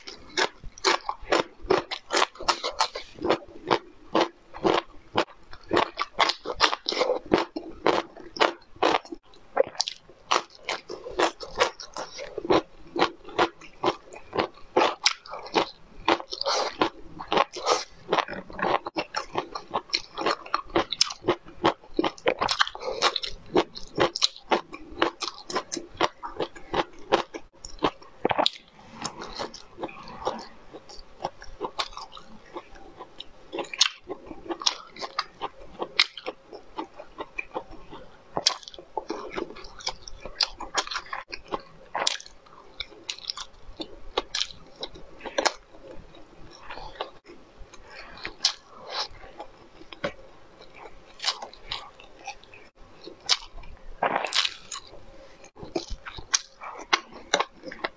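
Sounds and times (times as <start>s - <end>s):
crunching and chewing crisp food: 0.0s - 57.9s.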